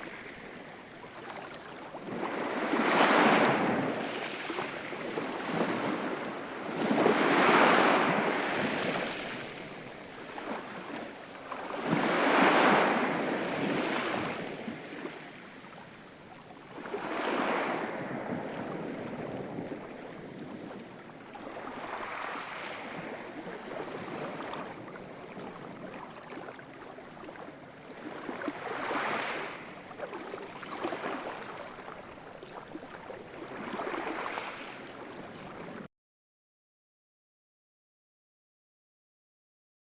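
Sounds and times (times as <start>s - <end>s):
sea waves breaking: 0.0s - 16.0s, 16.7s - 35.9s.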